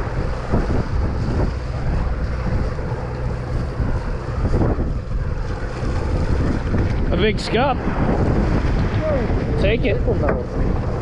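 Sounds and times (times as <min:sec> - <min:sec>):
boat engine rumble: 0:00.0 - 0:11.0
wind buffeting microphone: 0:00.0 - 0:11.0.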